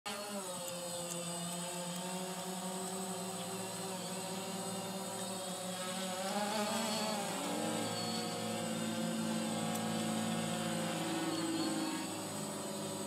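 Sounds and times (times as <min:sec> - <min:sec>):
drone propellers whining: 0:00.1 - 0:13.0.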